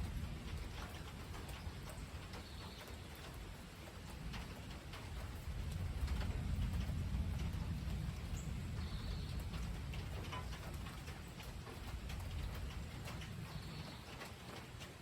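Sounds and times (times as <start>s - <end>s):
distant thunder rumble: 0.0s - 2.4s, 4.2s - 14.9s
rain dripping: 0.0s - 15.0s.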